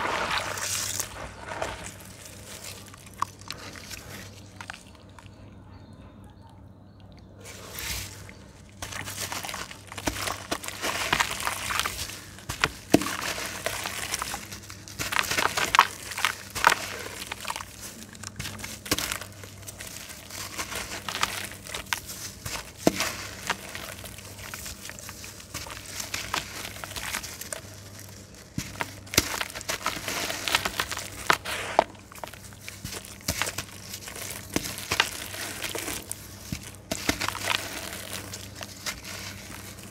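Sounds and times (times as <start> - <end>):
wet clay crumbling by hand: 0.0 - 5.5, 7.1 - 39.9.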